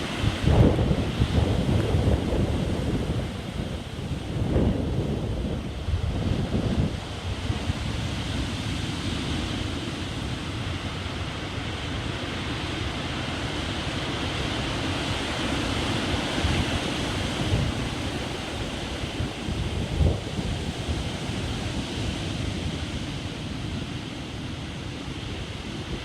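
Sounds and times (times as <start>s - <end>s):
rough sea surf on beach: 0.0s - 26.0s
wind buffeting microphone: 0.0s - 26.0s.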